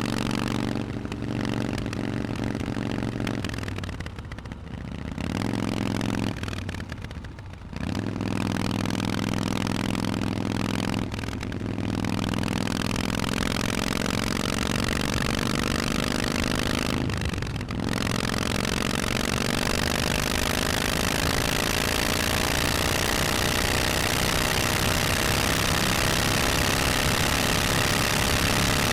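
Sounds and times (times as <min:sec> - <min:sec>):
motorcycle engine under throttle: 0:00.0 - 0:28.9.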